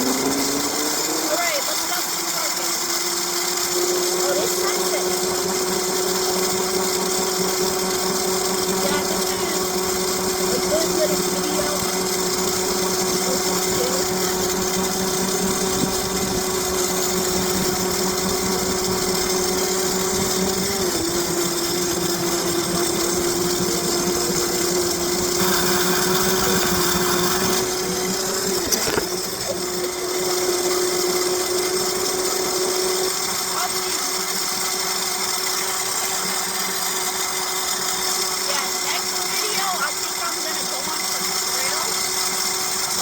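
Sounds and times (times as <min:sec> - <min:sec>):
small motor whine: 0:00.0 - 0:43.0.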